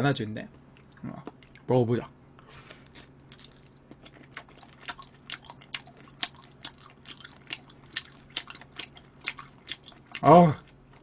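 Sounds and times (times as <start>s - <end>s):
person chewing wet crunches: 0.7s - 1.7s, 2.4s - 11.0s.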